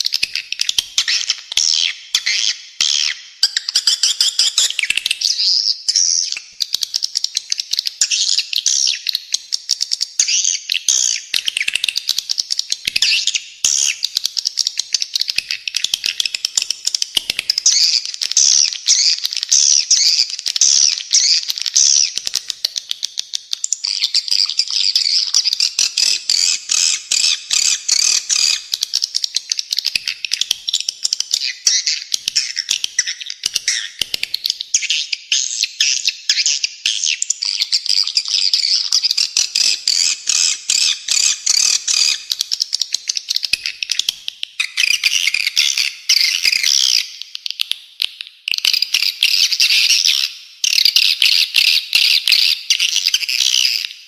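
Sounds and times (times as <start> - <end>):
fast high bird chirps: 0.0 - 47.3, 48.5 - 54.0.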